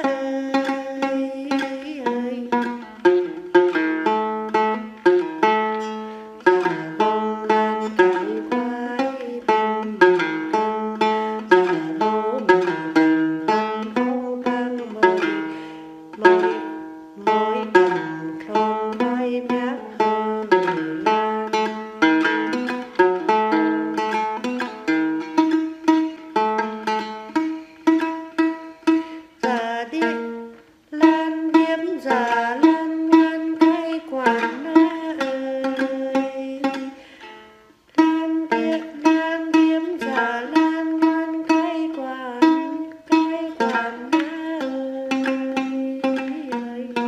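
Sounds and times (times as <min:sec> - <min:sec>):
plucked two-string lute melody: 0:00.0 - 0:47.0.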